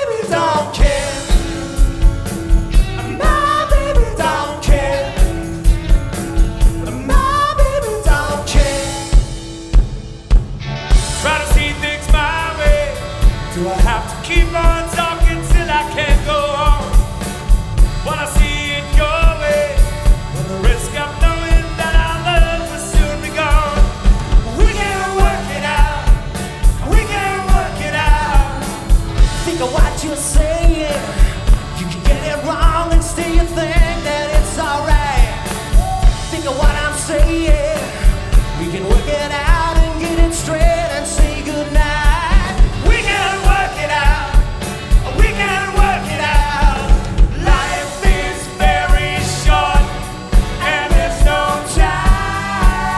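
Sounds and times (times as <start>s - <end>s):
man singing: 0.0s - 9.5s, 11.1s - 52.9s
band playing rock and pop song: 0.0s - 52.9s.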